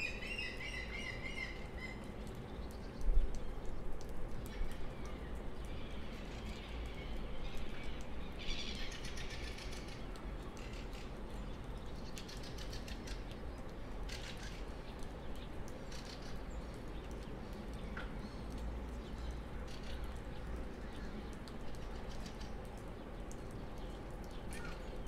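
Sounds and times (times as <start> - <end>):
birds calling and singing: 4.4 - 25.0.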